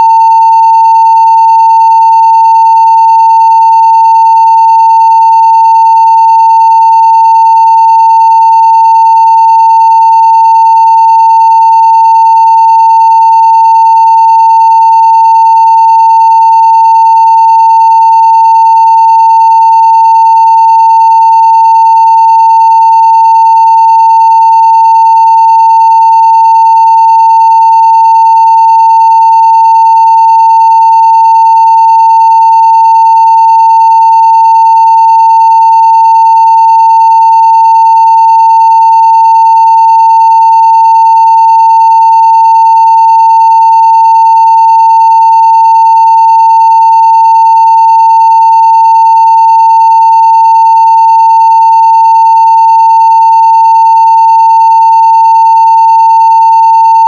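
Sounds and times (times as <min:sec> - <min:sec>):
sine wave test tone: 0:00.0 - 0:57.0.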